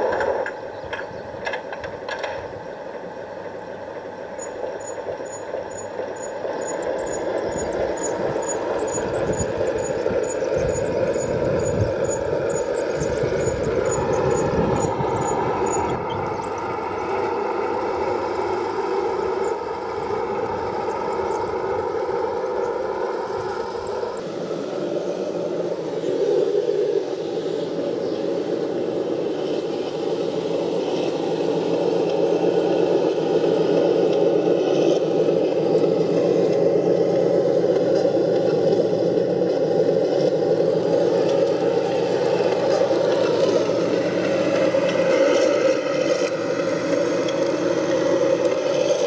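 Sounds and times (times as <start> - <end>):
engine-like rumble: 0.0 - 49.0
model tank motors and tracks: 0.0 - 49.0.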